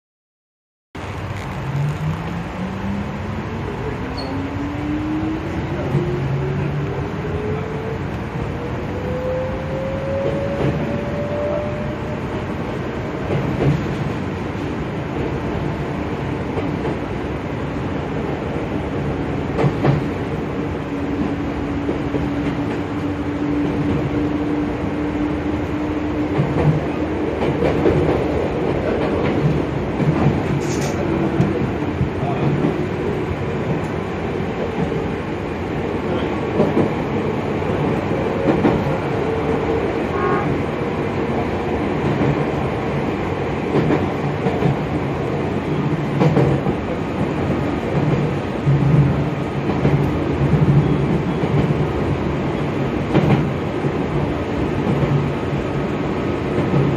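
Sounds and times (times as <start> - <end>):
train wheels rumbling on rail: 1.0 - 56.9
clickety-clack over rail joints: 10.0 - 17.2, 18.1 - 56.9.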